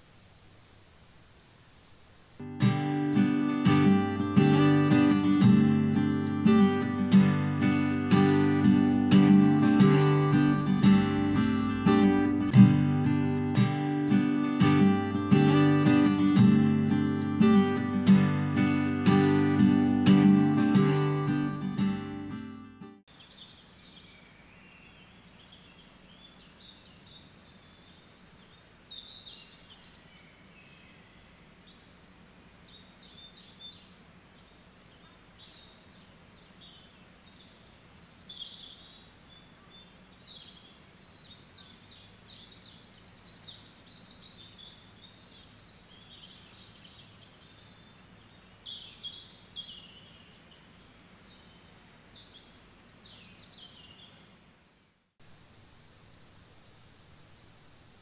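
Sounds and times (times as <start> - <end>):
faint steady hiss: 0.0 - 22.1, 23.0 - 58.0
songbirds chirping: 0.0 - 58.0.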